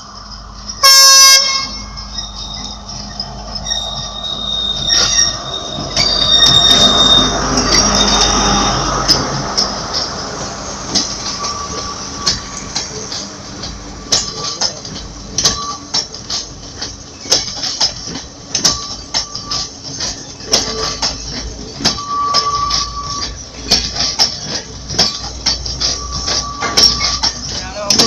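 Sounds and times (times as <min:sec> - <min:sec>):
high wheel squeals: 0:00.0 - 0:28.0
train wheels clacking over rail joints: 0:00.0 - 0:28.0.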